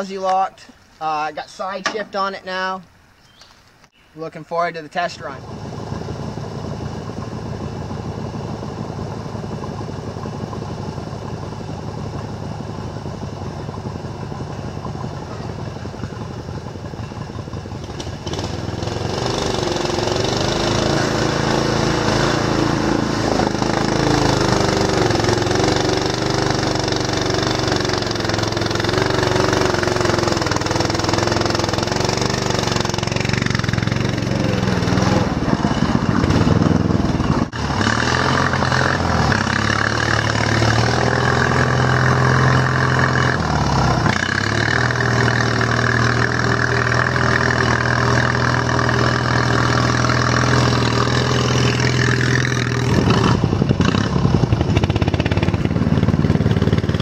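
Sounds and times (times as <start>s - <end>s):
riding lawn mower engine: 4.9s - 57.0s.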